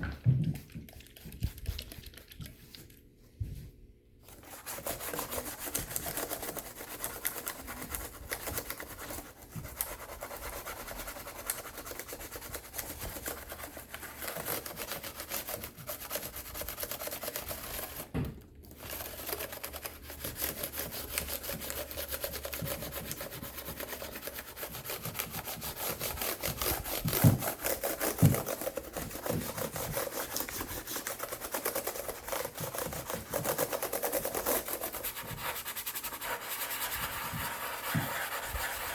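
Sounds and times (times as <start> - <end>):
scrubbing laptop parts: 4.3 - 38.9.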